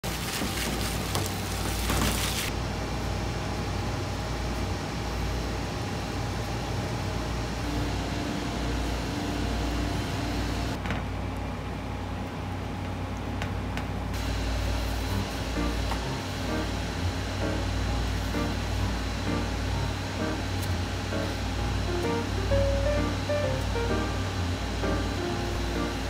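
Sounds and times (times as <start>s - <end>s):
low machinery hum: 0.0s - 26.0s.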